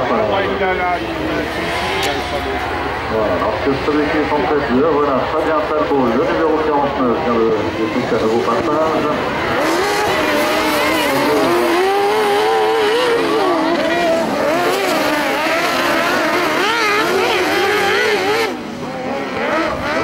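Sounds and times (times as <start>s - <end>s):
buggy engines racing: 0.0s - 20.0s.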